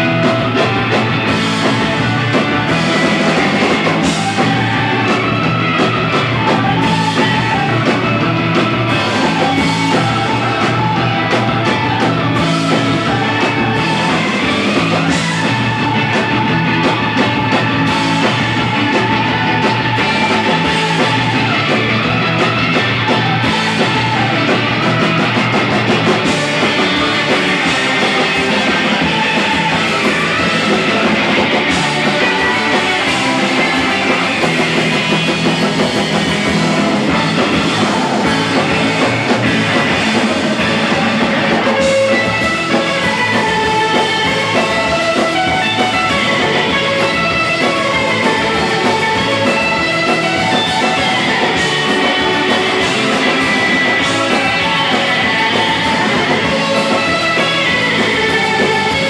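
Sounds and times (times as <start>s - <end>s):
surf rock band playing: 0.0s - 59.0s.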